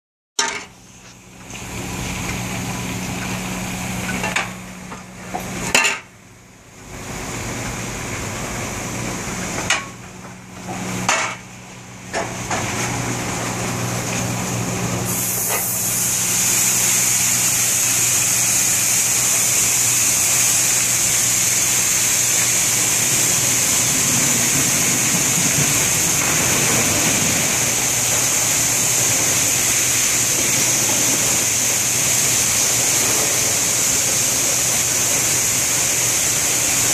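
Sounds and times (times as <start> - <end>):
car wash machinery humming: 0.4 - 36.9.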